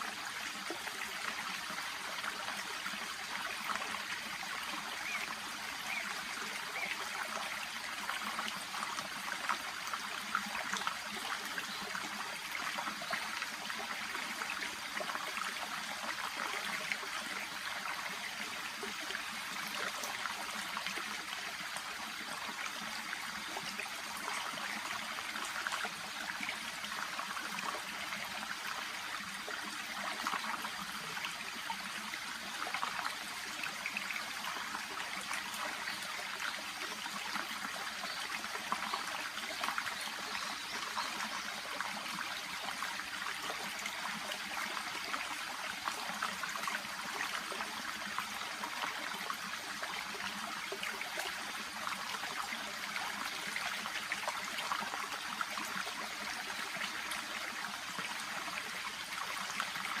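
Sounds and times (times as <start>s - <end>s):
brook babbling: 0.0s - 60.0s.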